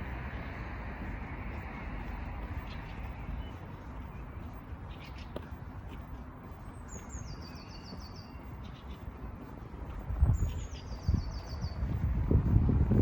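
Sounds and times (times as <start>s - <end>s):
songbird singing: 0.0s - 12.5s
low rumble of city background: 0.0s - 13.0s.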